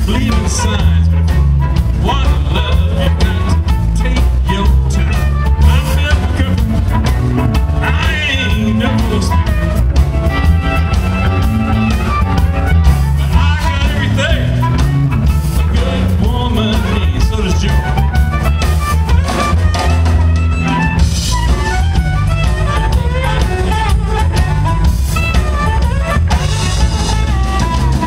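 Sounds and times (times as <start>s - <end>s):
drums beat: 0.0s - 28.0s
electric bass: 0.0s - 28.0s
electric guitar: 0.0s - 28.0s
harmonica wailing: 4.9s - 28.0s.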